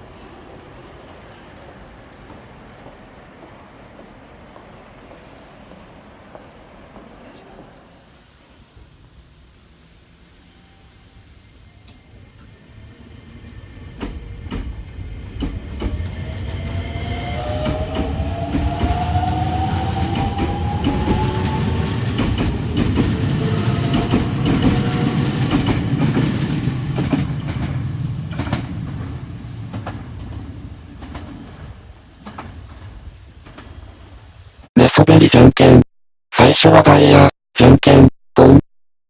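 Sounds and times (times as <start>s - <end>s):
subway train rumbling past: 0.0s - 34.7s.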